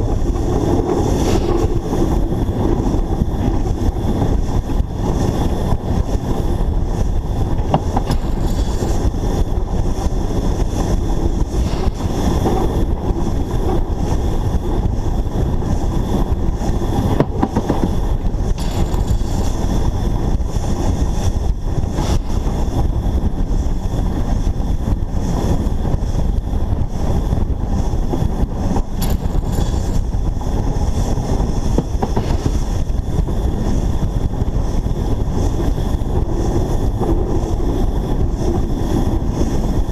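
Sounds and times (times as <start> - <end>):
steam locomotive rumble: 0.0 - 39.9.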